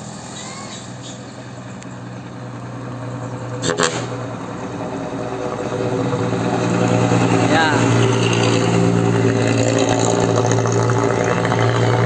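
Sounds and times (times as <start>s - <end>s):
truck diesel engine approaching: 0.0s - 12.0s.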